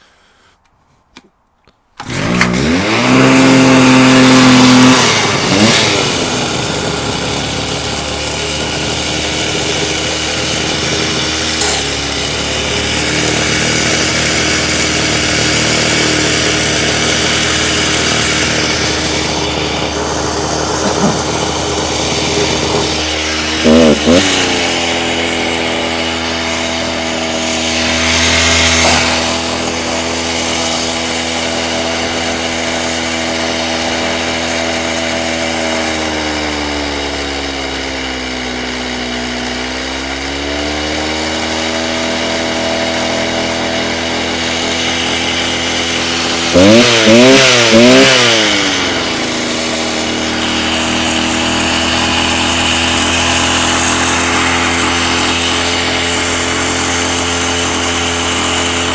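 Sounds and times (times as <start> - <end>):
cut-off saw engine running: 2.0 - 58.9.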